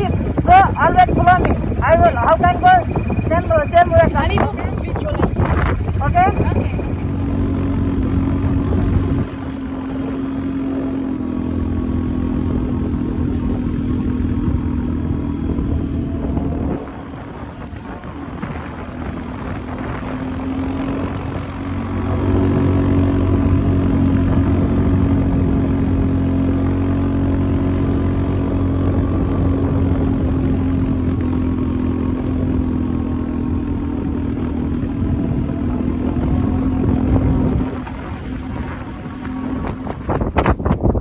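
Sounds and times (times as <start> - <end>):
quad bike engine running: 0.0 - 41.0.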